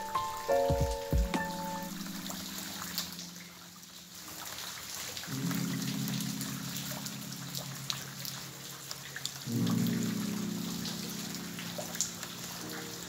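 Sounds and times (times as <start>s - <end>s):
heavy rain falling: 0.0s - 13.0s
soft background music: 0.0s - 13.0s.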